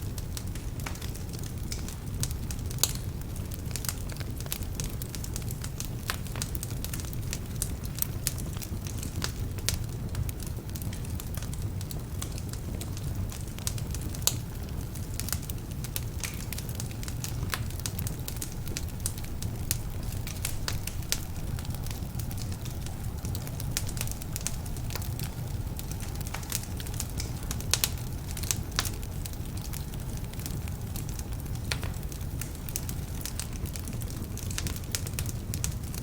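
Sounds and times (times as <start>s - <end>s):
low rumble of flames: 0.0s - 36.0s
logs crackling and popping: 0.1s - 36.0s.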